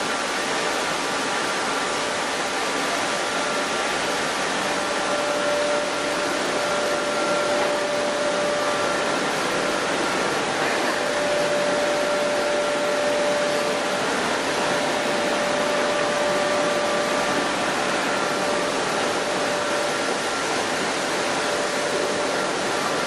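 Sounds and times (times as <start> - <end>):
milling machinery running: 0.0 - 23.0.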